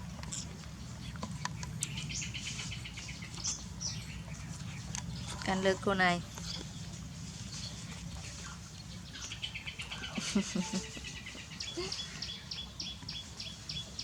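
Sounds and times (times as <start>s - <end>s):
birds chirping: 0.4s - 14.0s.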